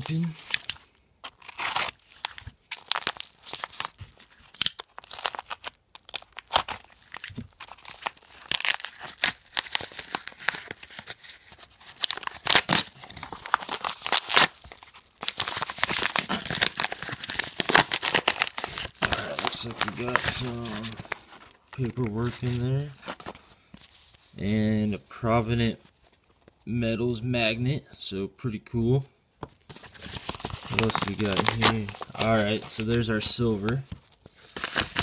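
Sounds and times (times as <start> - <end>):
paper packaging tearing and crumpling: 0.0 - 24.4, 29.7 - 35.0.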